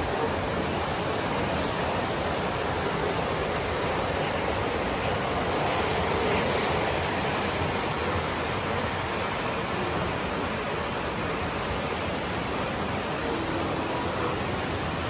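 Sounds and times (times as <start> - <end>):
model train wheels rushing on rail: 0.0 - 15.0.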